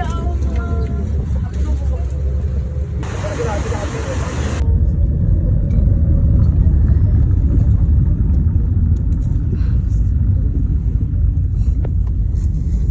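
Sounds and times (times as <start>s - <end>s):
amusement ride train rumbling: 0.0s - 12.9s.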